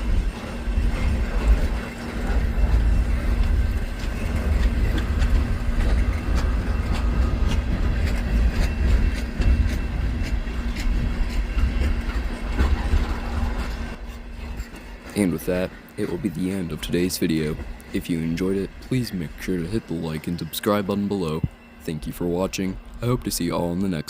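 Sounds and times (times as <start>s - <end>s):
heavy low rumble: 0.0s - 20.6s
diesel locomotive hum: 0.0s - 24.0s
wheels clicking over rail joints: 0.0s - 24.0s.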